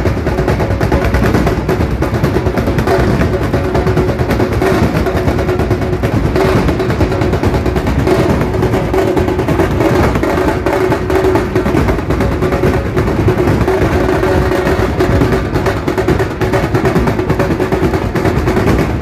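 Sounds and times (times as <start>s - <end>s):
drums beaten fast with sticks: 0.0s - 19.0s.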